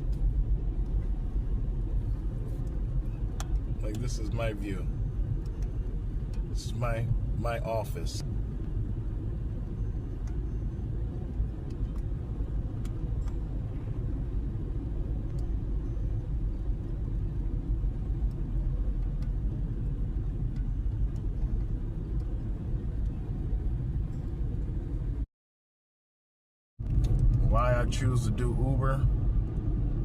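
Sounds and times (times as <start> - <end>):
car road and engine rumble: 0.0 - 25.3, 26.8 - 30.0.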